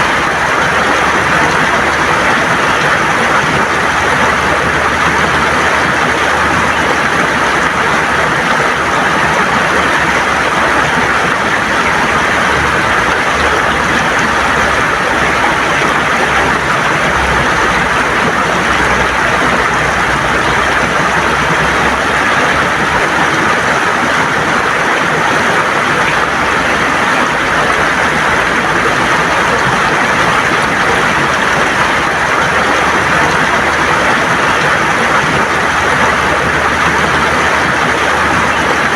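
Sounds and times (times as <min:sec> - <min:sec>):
river rushing over stones: 0:00.0 - 0:38.9.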